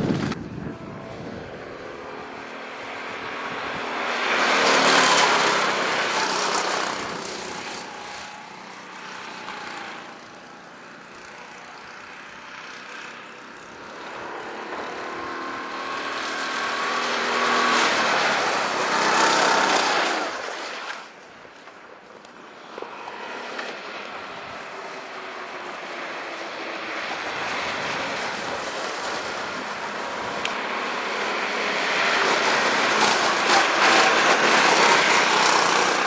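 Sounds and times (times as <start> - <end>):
kart engines passing: 0.0 - 36.0.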